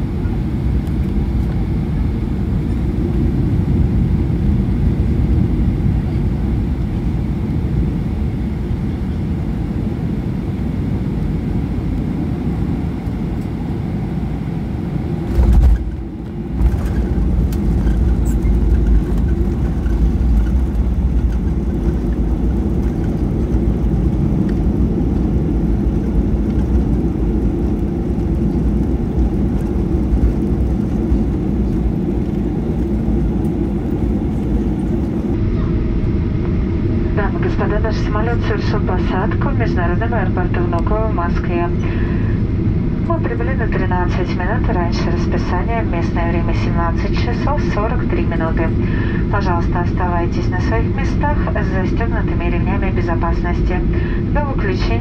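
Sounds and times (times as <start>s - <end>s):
aircraft cabin rumble while taxiing: 0.0s - 55.0s.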